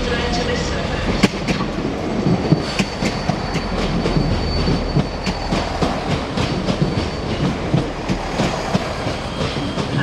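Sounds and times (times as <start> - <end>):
train rumble: 0.0 - 10.0
train wheels clicking over rail joints: 1.1 - 10.0.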